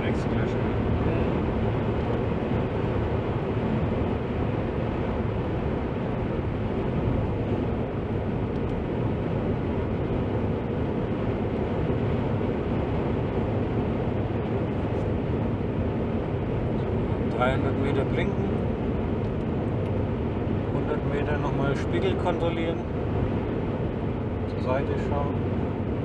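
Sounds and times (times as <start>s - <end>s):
car cabin road noise: 0.0s - 26.0s.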